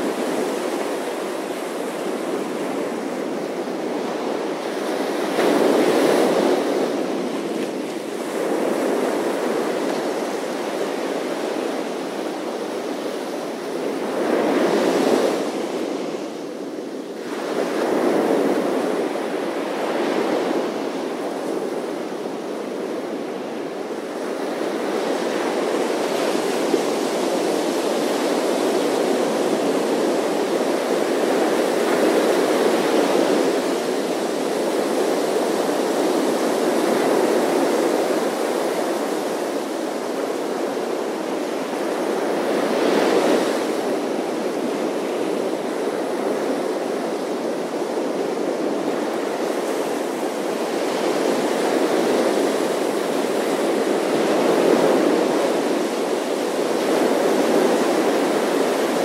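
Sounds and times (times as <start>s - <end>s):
ocean waves crashing on beach: 0.0s - 59.0s.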